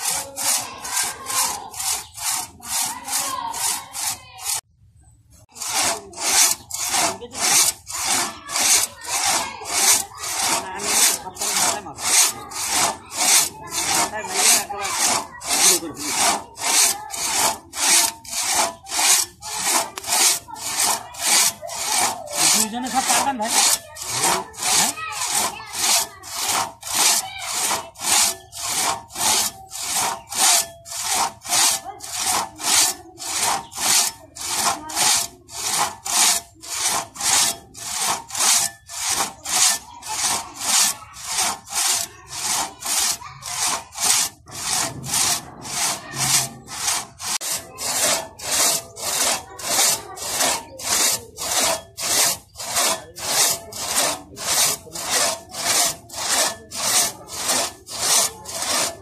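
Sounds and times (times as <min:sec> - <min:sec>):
crosscut saw rasping through log: 0:00.0 - 0:04.7, 0:05.5 - 0:59.0.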